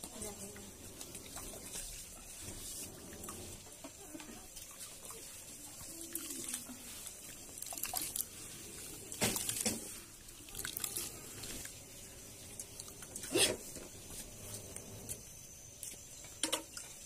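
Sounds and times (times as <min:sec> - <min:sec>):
water splashes and drips: 0:00.0 - 0:15.2, 0:15.8 - 0:17.0
hands squishing wet grain in water: 0:00.0 - 0:17.0.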